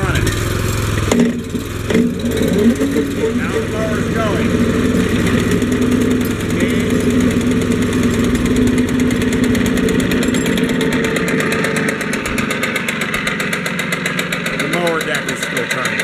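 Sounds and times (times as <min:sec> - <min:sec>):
mower deck turning: 0:00.0 - 0:16.0
tractor engine rumbling: 0:00.0 - 0:16.0.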